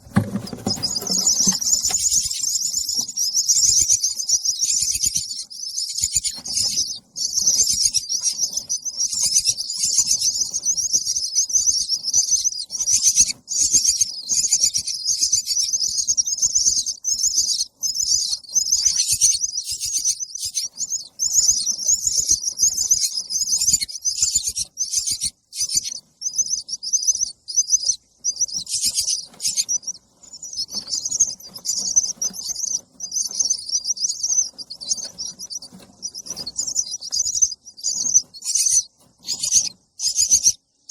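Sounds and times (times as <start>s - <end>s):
baby birds chirping: 0.0s - 40.9s.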